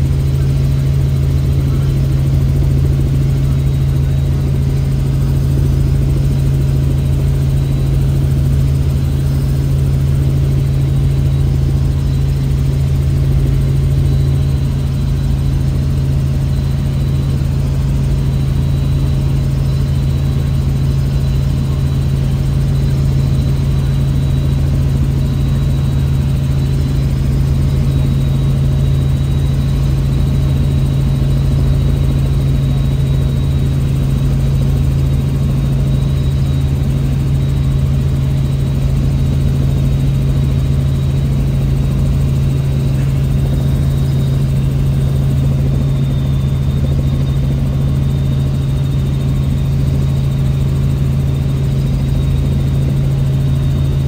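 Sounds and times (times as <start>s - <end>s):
faint high whine: 0.0s - 54.0s
helicopter engine and rotors: 0.0s - 54.0s.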